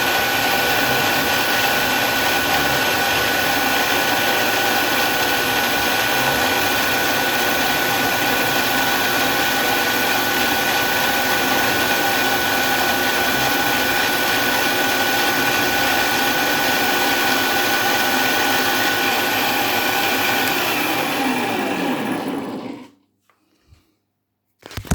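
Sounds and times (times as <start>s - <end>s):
milling machine spindle whine: 0.0s - 22.9s.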